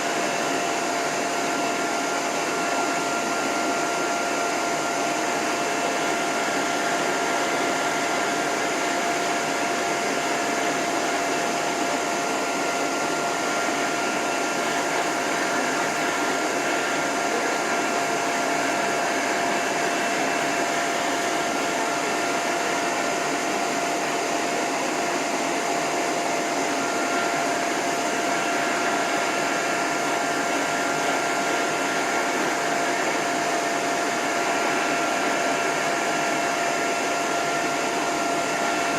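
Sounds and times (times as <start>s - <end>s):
dryer air rushing: 0.0s - 38.9s.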